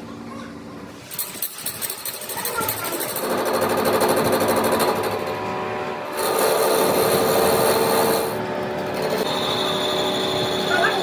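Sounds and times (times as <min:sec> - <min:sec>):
power tool grinding metal: 0:01.6 - 0:11.0.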